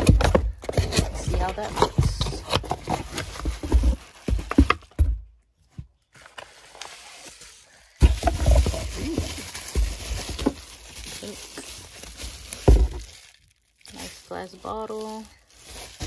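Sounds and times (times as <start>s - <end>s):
bubble wrap crinkling: 0.0s - 5.0s, 6.0s - 16.0s.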